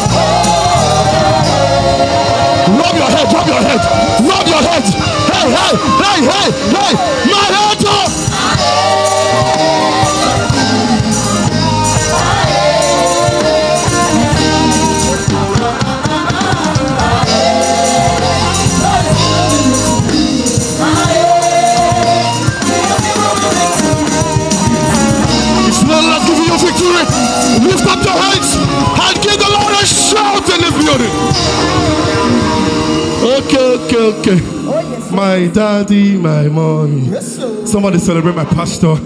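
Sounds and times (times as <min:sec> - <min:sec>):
electric bass guitar: 0:00.0 - 0:07.2, 0:08.1 - 0:35.2
drums: 0:00.0 - 0:35.2.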